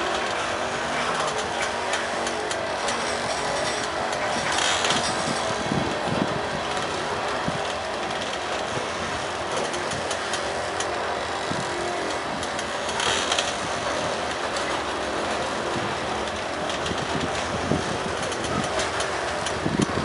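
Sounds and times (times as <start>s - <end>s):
steel wheels on rails: 0.0s - 20.0s
train clatter: 0.0s - 20.0s.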